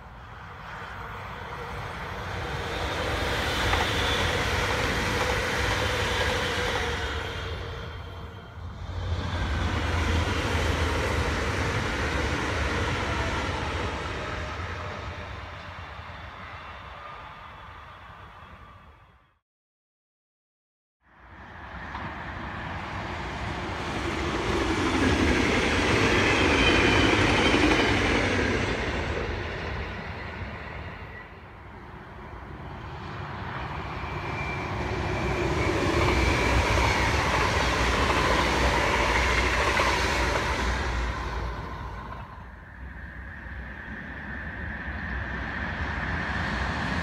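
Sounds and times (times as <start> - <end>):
electric train passing: 0.0 - 19.3, 21.2 - 47.0
train passing with rail noise: 0.0 - 19.4, 21.0 - 47.0.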